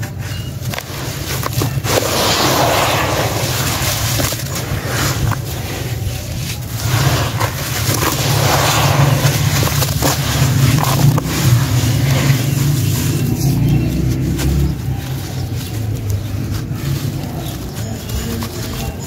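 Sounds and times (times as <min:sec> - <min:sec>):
wet sand crunching in hands: 0:00.2 - 0:19.0.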